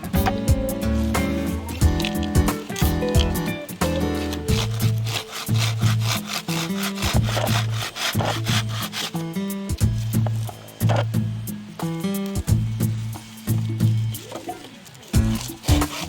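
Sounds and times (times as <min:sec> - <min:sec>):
background music: 0:00.0 - 0:16.0
saw cutting firewood: 0:00.0 - 0:16.0.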